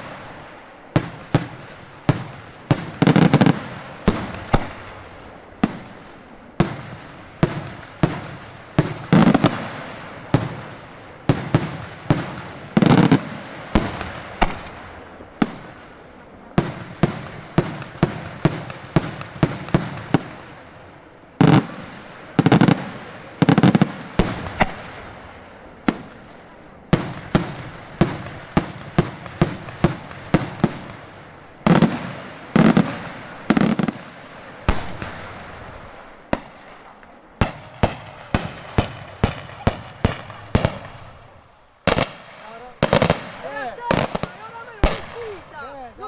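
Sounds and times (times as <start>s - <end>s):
fireworks bangs with echo: 0.0s - 46.0s.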